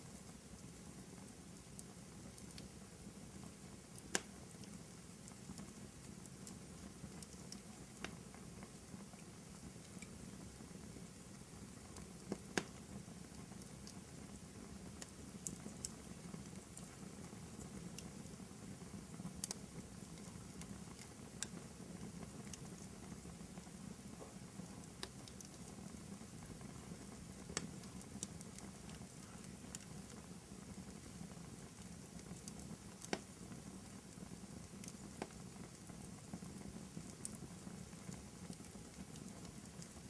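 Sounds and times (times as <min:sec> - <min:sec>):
fire crackles and pops: 0:00.0 - 0:40.0
fire rustling: 0:00.0 - 0:40.0.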